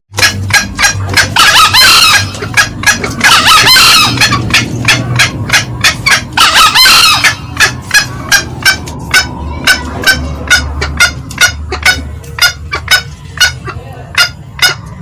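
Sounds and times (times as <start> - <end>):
junglefowl clucking: 0.2 - 15.0
junglefowl crowing: 0.2 - 15.0.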